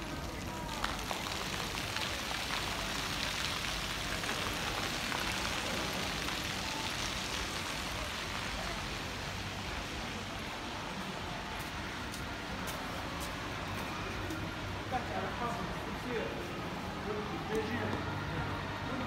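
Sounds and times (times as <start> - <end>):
light rain on pavement: 0.0 - 19.0.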